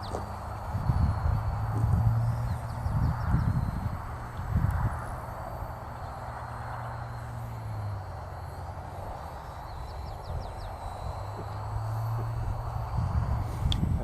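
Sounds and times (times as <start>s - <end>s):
quadcopter drone buzzing: 0.0s - 14.0s.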